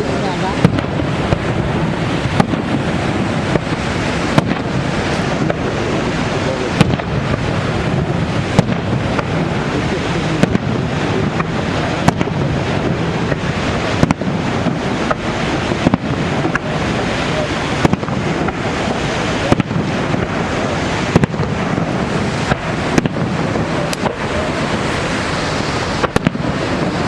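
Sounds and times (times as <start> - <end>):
steady rushing roar: 0.0 - 27.0
firework shells bursting: 0.5 - 9.8, 10.4 - 27.0.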